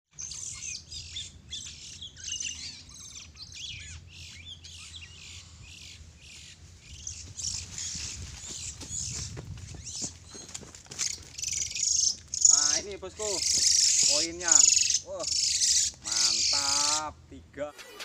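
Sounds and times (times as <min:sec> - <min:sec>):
small birds chirping: 0:00.1 - 0:17.4.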